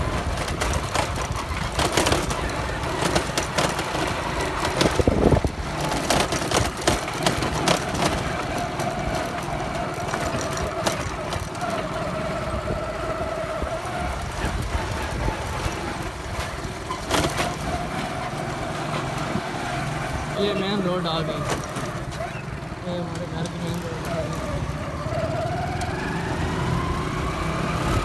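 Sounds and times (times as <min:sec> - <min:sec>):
motorcycle engine running: 0:00.0 - 0:28.0
rattling knocks from bumps: 0:00.0 - 0:28.0.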